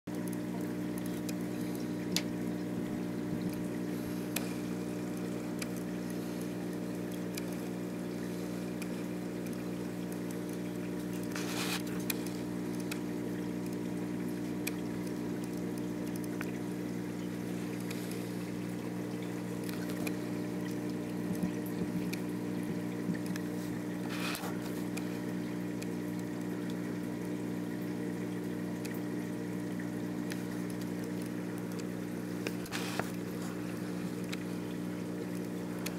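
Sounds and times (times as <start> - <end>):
aquarium pump humming: 0.1 - 35.9
water trickling: 0.1 - 35.9.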